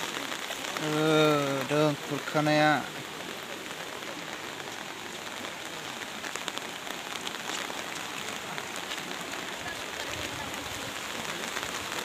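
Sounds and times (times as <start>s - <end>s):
rain pattering on water: 0.0s - 12.0s.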